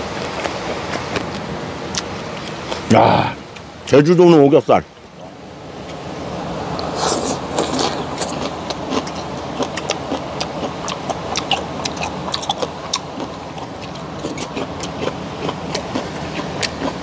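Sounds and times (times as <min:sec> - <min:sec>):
steady sizzling hiss: 0:00.0 - 0:17.0.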